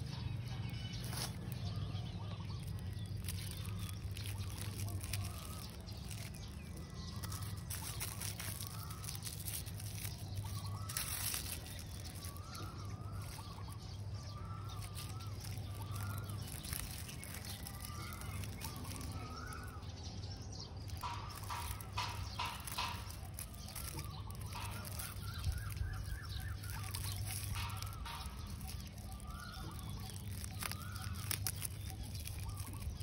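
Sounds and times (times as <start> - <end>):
bird calling: 0.0 - 33.0
handling rustles: 0.1 - 19.9, 20.8 - 33.0.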